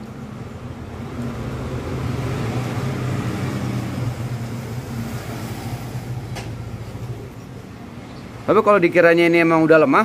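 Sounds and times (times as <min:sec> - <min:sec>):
vehicle engine humming: 0:00.0 - 0:09.7.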